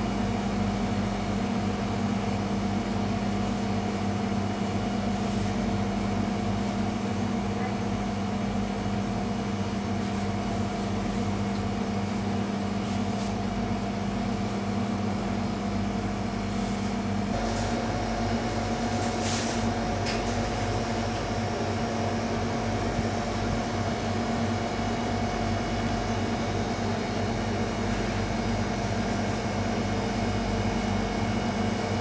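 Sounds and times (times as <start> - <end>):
bakery machinery hum: 0.0 - 32.0.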